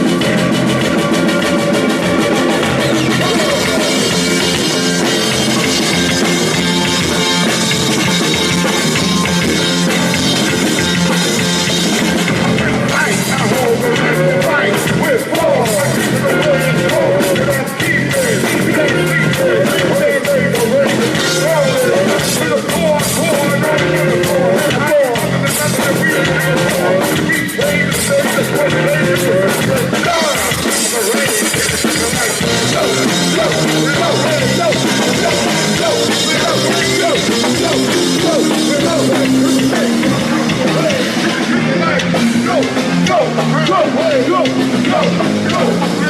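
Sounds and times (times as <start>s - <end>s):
bass guitar: 0.0s - 46.0s
drum kit with cymbal hits: 0.0s - 46.0s
electric guitar: 0.0s - 46.0s
person singing: 0.0s - 46.0s.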